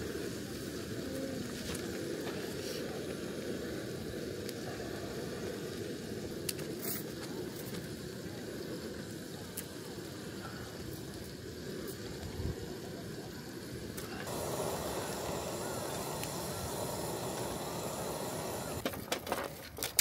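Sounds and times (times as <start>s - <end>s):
gas torch burning: 0.0s - 19.0s.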